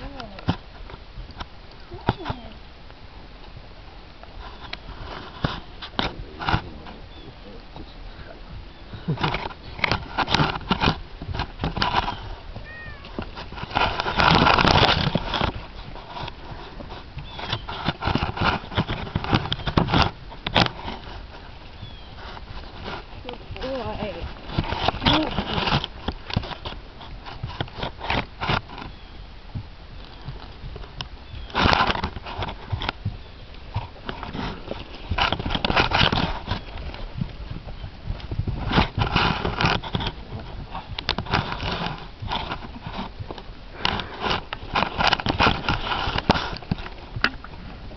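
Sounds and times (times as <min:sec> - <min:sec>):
horse hoofbeats on grass: 0:00.0 - 0:47.9
rustling: 0:00.0 - 0:47.9.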